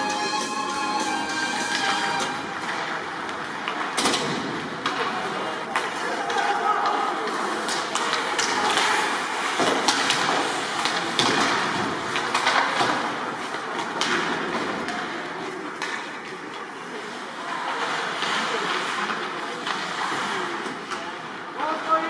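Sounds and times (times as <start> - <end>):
hockey sticks and puck clacking: 0.0 - 22.0.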